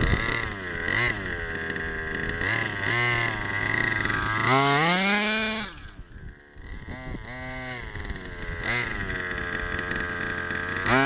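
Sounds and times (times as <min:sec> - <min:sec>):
two-stroke engine idling and revving: 0:00.0 - 0:11.0.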